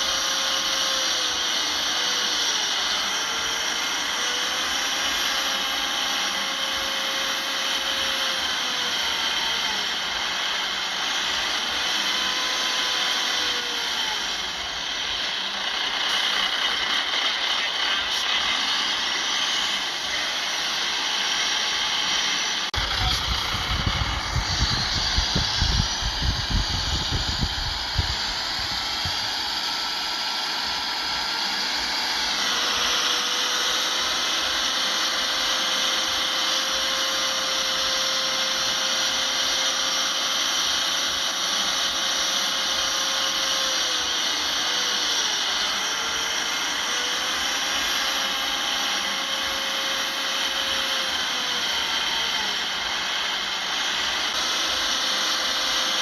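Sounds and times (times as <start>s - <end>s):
machinery whine with hiss: 0.0s - 56.0s.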